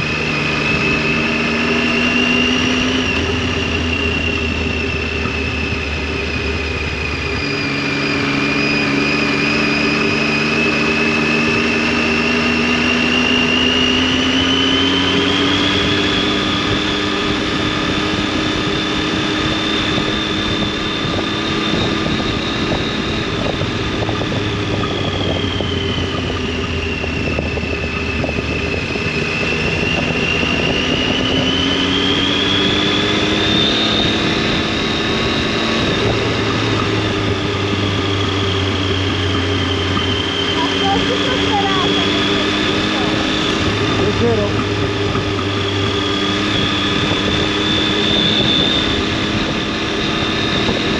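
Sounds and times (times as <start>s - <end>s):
motorcycle engine and exhaust: 0.0s - 50.9s
wind and road noise: 0.0s - 50.9s.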